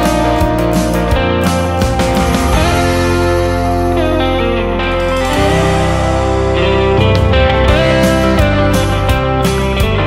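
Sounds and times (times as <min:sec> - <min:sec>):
guitar background music: 0:00.0 - 0:10.0.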